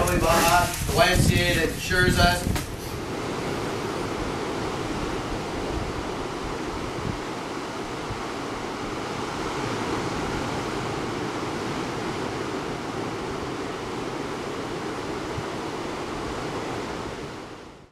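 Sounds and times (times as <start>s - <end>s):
steady rushing noise: 0.0s - 17.9s.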